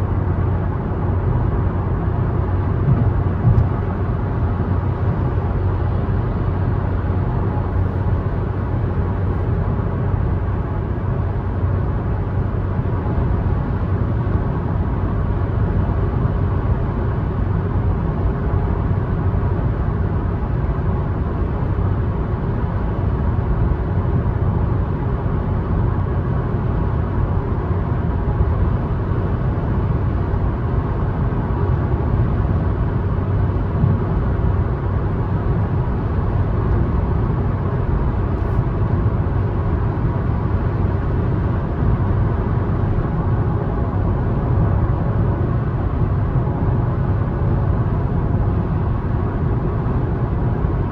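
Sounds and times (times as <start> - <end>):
car engine and tyre road noise: 0.0 - 50.9.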